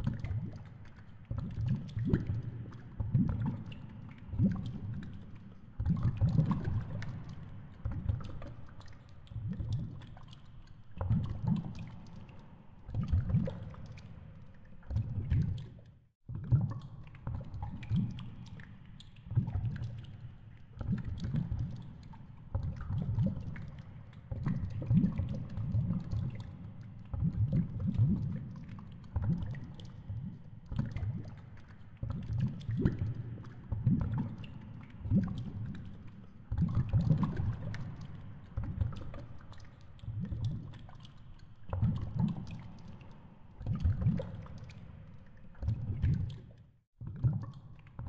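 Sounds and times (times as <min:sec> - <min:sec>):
water sloshing and gurgling: 0:00.0 - 0:48.0.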